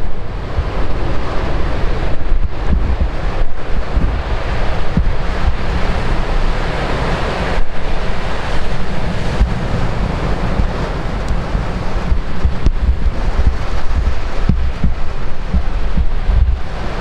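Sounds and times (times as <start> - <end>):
heavy surf crashing: 0.0 - 17.0
wind buffeting microphone: 0.0 - 17.0.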